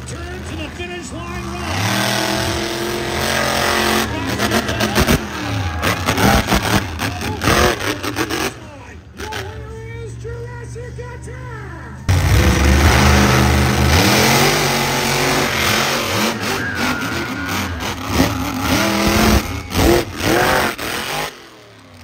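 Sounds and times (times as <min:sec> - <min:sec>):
monster truck engines revving: 0:00.0 - 0:22.0.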